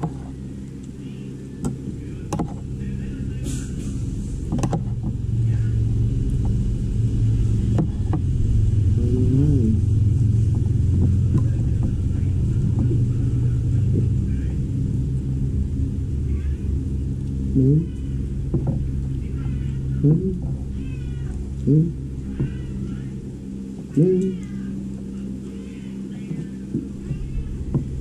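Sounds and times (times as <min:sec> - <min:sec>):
motor low rumble: 0:00.0 - 0:28.0.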